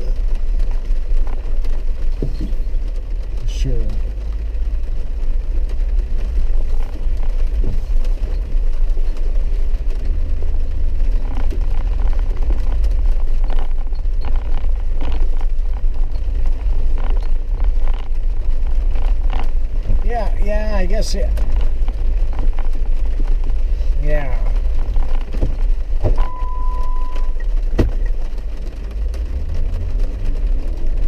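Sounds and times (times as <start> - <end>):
vehicle cabin rumble: 0.0 - 31.0.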